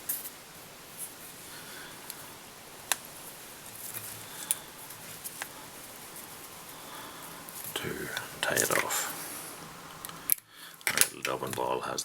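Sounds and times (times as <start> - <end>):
faint rustling of hands: 0.0 - 10.3.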